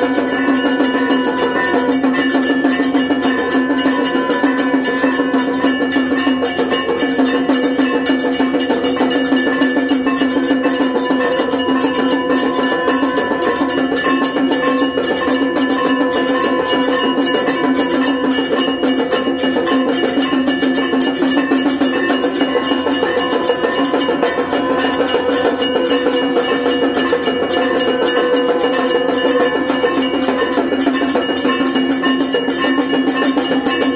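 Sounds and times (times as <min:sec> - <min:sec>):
percussion: 0:00.0 - 0:33.9
temple bells ringing: 0:00.0 - 0:33.9.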